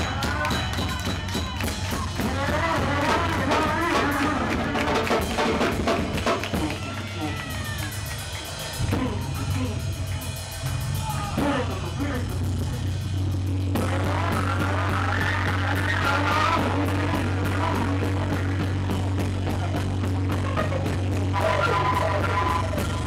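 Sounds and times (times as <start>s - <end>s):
fast dense drumming: 0.0s - 23.0s
low bass drone: 0.0s - 23.0s.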